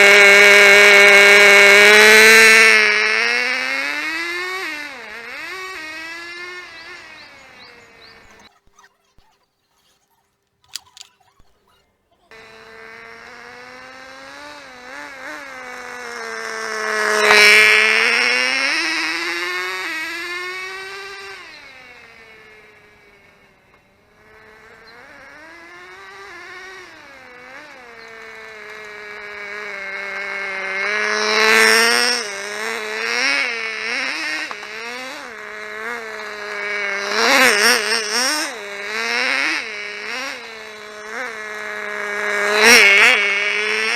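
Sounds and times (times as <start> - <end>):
small model car engine revving: 0.0 - 43.9.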